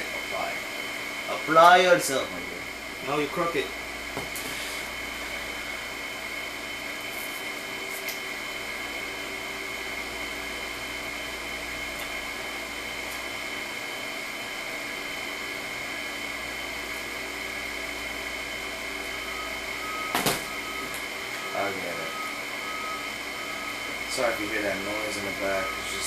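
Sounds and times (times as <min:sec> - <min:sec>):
machine whirr with high whine: 0:00.0 - 0:26.0.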